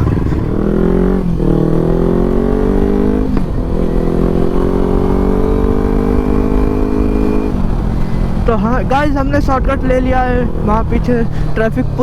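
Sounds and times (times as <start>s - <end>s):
motorcycle accelerating: 0.0s - 12.0s.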